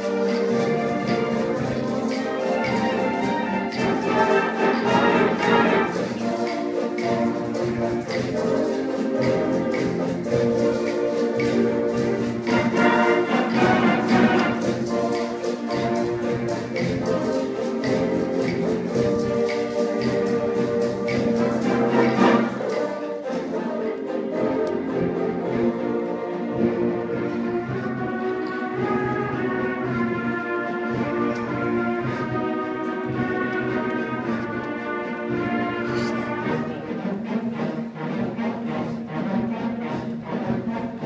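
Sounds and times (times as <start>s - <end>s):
concert band wind chords: 0.0s - 41.0s.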